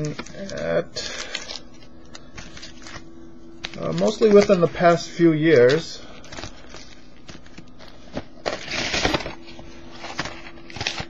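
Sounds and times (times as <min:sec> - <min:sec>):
card packs rustling and tapping: 0:00.0 - 0:11.0
foil wrapper crinkling: 0:00.0 - 0:11.0.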